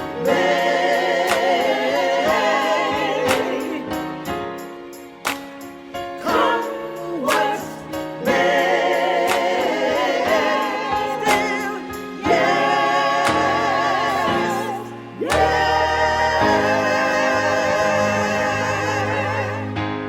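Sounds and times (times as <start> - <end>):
choir singing held chords: 0.0 - 20.0
sustained instrumental backing: 0.0 - 20.0.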